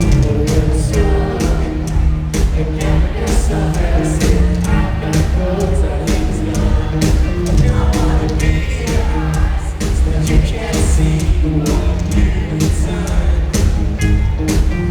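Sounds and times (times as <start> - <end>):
person singing: 0.0 - 13.8
live rock band playing: 0.0 - 14.9.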